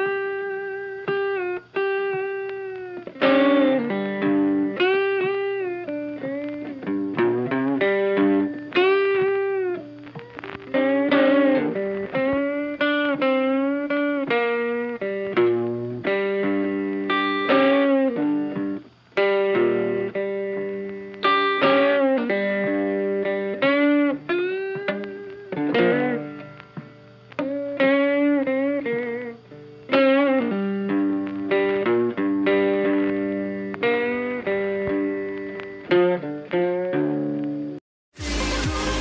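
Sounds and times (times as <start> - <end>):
guitar instrumental with bending notes: 0.0 - 39.0.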